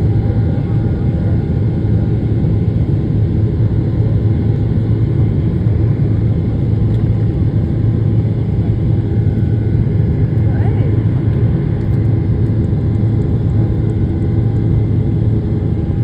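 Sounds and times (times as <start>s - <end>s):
airplane cabin drone: 0.0s - 16.0s
jet engines rumbling: 0.0s - 16.0s.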